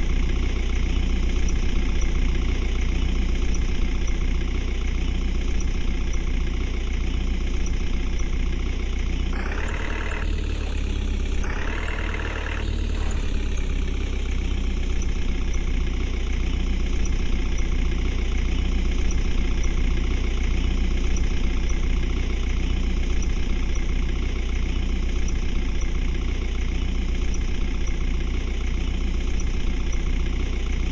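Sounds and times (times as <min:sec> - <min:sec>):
diesel engine idling: 0:00.0 - 0:30.9.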